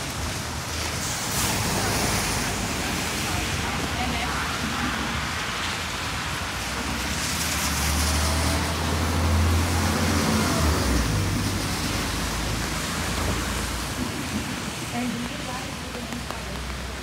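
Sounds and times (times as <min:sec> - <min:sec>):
car driving past on wet street: 0:00.0 - 0:17.0
steady rain: 0:00.0 - 0:17.0.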